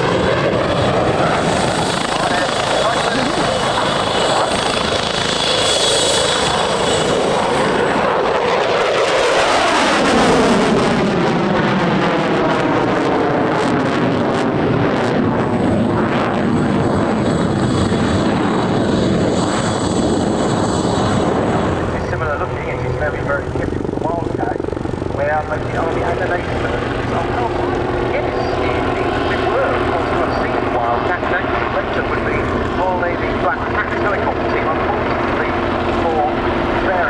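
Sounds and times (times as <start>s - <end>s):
aircraft flying past: 0.0s - 37.0s.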